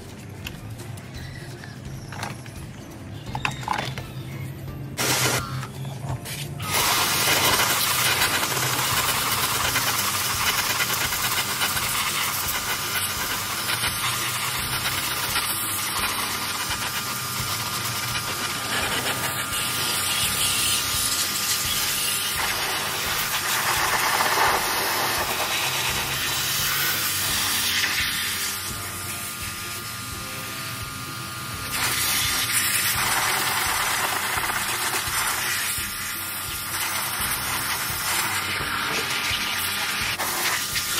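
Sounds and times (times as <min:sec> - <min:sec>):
high-pressure water spray hissing: 0:05.0 - 0:05.4, 0:06.3 - 0:30.5, 0:31.6 - 0:40.9.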